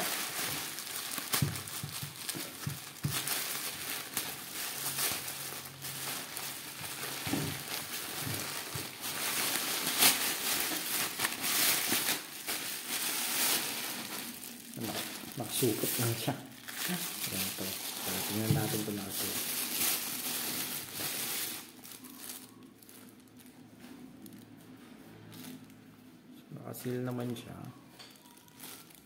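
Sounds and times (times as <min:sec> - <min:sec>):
plastic bag rustling: 0:00.0 - 0:25.8, 0:26.8 - 0:29.0.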